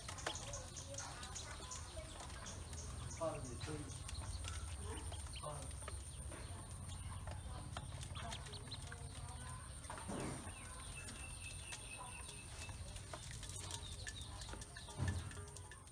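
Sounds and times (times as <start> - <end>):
ducklings peeping: 0.0 - 15.4
bills pecking on metal: 0.0 - 15.9.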